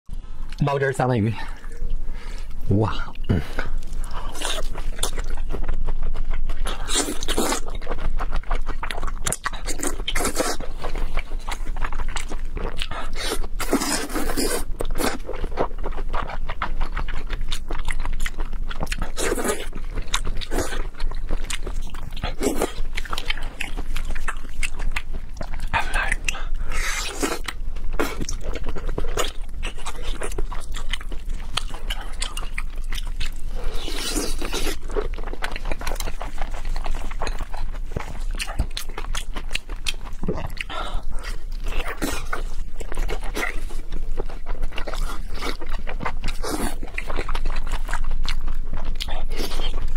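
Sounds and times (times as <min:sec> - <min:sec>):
wet chewing and slurping: 0:01.5 - 0:49.9.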